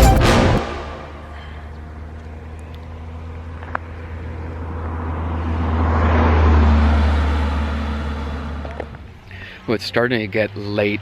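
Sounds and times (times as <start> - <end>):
road vehicle rumble: 0.6 - 11.0.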